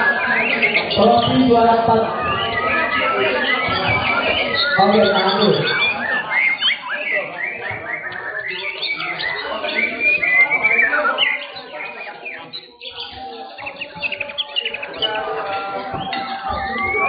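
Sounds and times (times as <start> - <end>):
songbirds whistling and trilling: 0.0 - 17.0.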